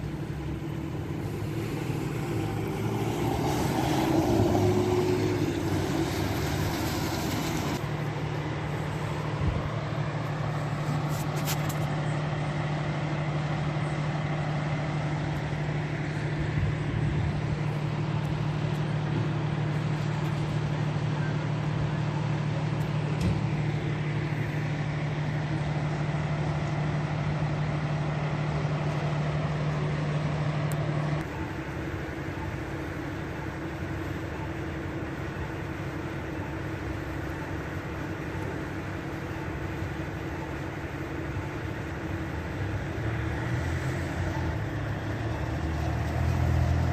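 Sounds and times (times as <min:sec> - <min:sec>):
traffic noise: 0:00.0 - 0:46.9
vehicle engines humming: 0:00.0 - 0:46.9.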